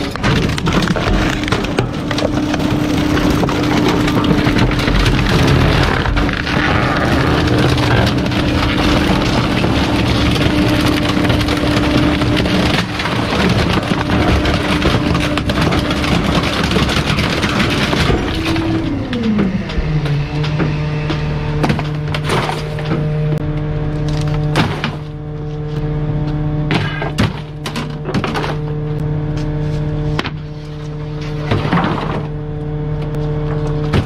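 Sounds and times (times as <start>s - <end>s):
junk cracking and splintering: 0.0s - 29.1s, 30.1s - 34.0s
hydraulic whine: 0.0s - 34.0s
truck engine at high revs: 0.0s - 34.0s.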